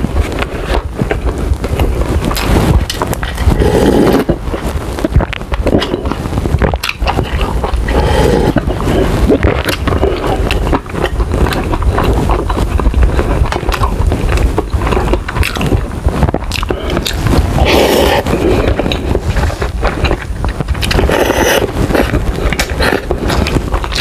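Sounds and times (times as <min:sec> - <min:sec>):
steady low rumble: 0:00.0 - 0:24.0
wet chewing with mouth clicks: 0:00.2 - 0:24.0
slurping noodle soup: 0:02.3 - 0:06.2, 0:06.8 - 0:15.8, 0:16.4 - 0:24.0.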